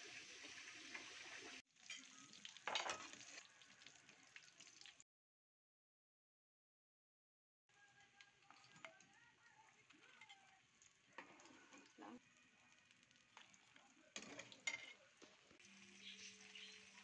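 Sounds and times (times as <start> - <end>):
fish frying in oil: 0.0 - 5.0, 7.8 - 17.0.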